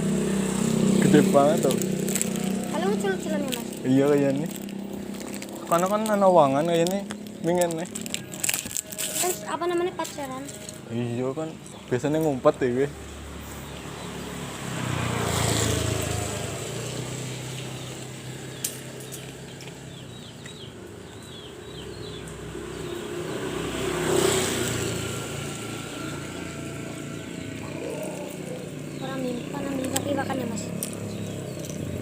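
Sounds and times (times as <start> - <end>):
motor vehicles passing: 0.0 - 32.0.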